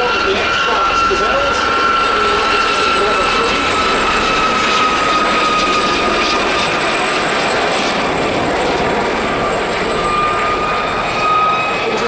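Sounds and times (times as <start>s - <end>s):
helicopter flying past: 0.0s - 12.0s.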